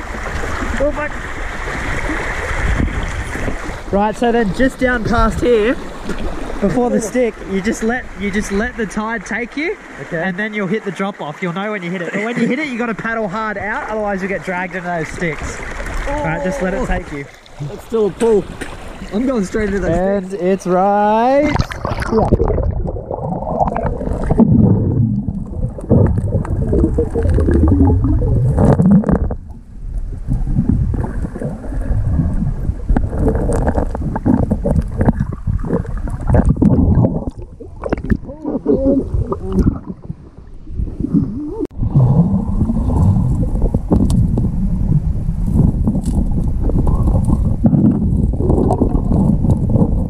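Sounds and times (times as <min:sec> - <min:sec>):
muffled underwater river churning: 0:00.0 - 0:50.0.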